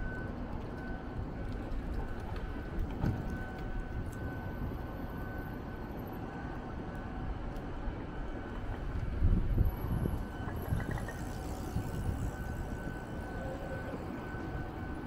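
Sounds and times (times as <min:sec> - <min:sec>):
faint high whine: 0:00.0 - 0:15.0
traffic rumble: 0:00.0 - 0:15.0.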